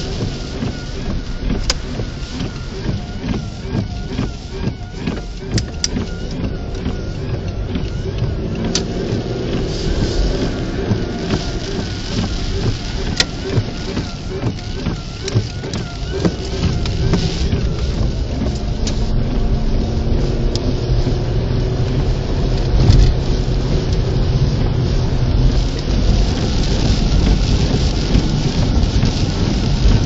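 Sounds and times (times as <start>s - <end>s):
heavy rain hissing: 0.0s - 30.0s
wind rumbling around vehicle: 0.0s - 30.0s.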